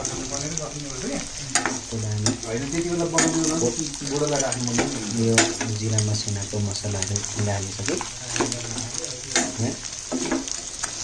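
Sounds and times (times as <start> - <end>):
meat and potatoes sizzling in pan: 0.0 - 11.0.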